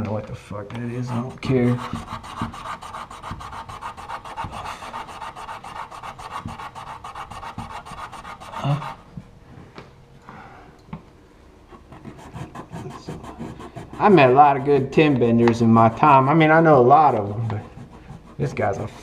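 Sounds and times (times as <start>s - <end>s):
rapid scraping or rubbing: 1.0s - 9.0s, 11.8s - 19.0s.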